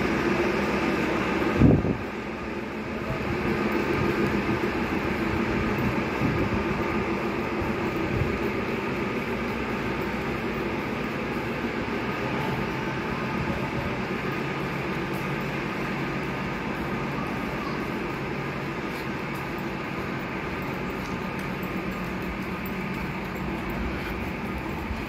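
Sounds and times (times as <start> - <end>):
train running gear rumbling: 0.0 - 25.0.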